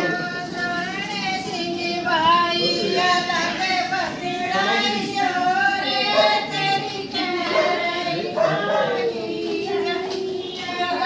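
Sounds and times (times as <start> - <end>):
women singing a folk song: 0.0 - 11.0.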